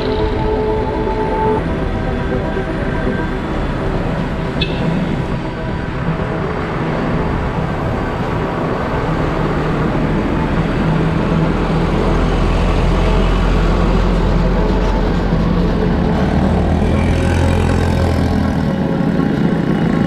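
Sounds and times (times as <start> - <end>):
road noise: 0.0 - 20.0
vehicle engine running: 0.0 - 20.0.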